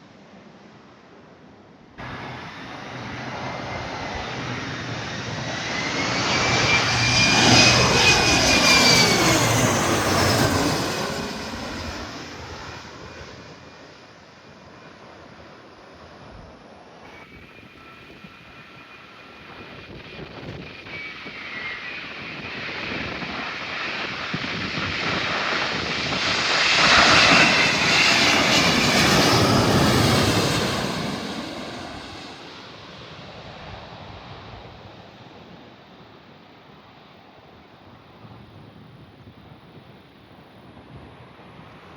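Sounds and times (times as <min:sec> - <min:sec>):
jet airliner passing by: 0:02.0 - 0:39.6.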